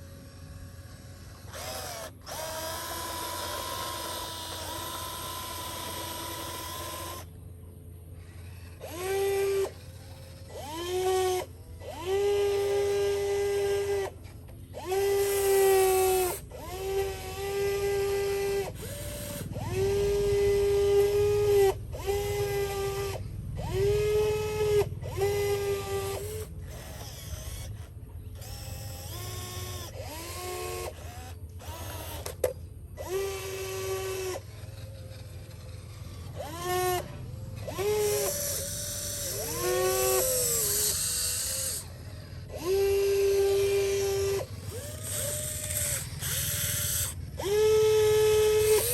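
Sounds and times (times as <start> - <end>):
low steady hum: 0.0 - 48.9
small electric motors whining: 0.0 - 48.9.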